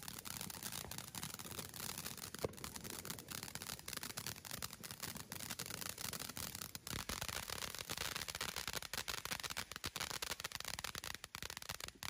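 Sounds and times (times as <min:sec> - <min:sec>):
firework fountain hissing and crackling: 0:00.0 - 0:12.0.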